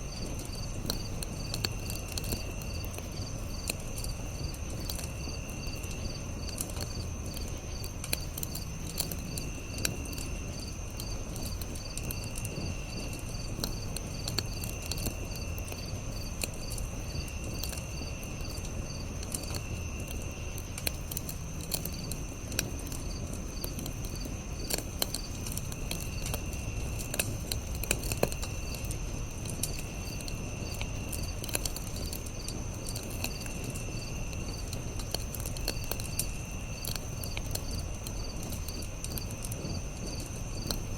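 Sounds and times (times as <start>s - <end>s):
campfire crackling and popping: 0.0s - 40.9s
crickets chirping: 0.0s - 40.9s.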